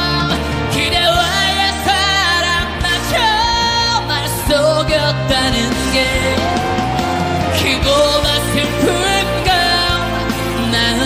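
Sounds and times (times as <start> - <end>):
band accompaniment: 0.0 - 11.0
man singing ballad: 0.0 - 11.0.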